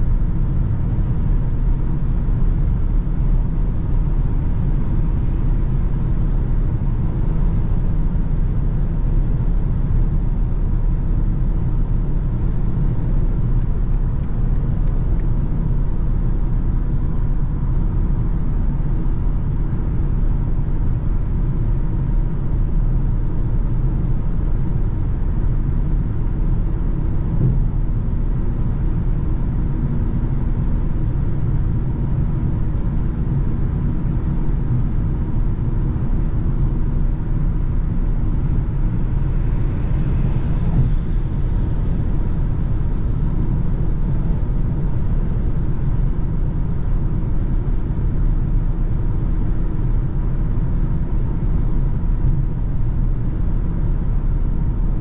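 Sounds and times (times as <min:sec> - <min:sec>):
car cabin engine and road noise: 0:00.0 - 0:55.0.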